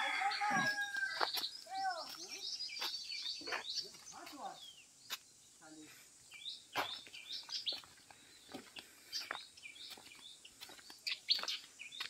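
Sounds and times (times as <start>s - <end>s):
footsteps on dry path: 0.0s - 12.0s
small birds chirping: 0.0s - 12.0s.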